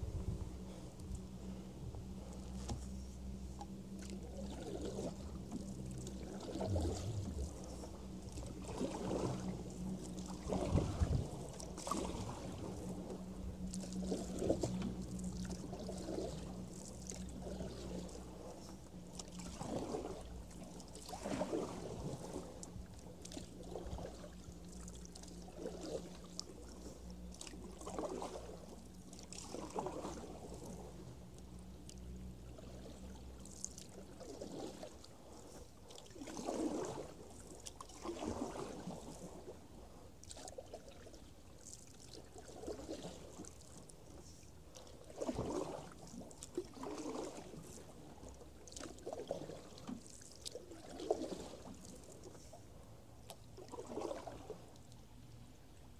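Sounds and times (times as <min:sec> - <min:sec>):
steady low hum: 0:00.0 - 0:48.6
paddle swishing water: 0:00.0 - 0:55.9.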